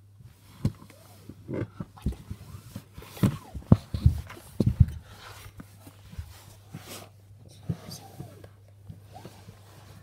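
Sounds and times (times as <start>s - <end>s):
soft thumps and rustles: 0.3s - 10.0s.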